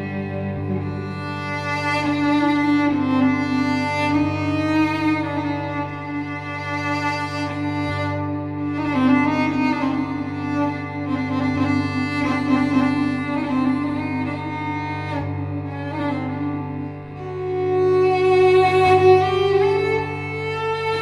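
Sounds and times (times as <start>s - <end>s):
bowed cello melody: 0.0s - 21.0s
long cello note: 0.0s - 21.0s
low held cello drone: 0.0s - 21.0s.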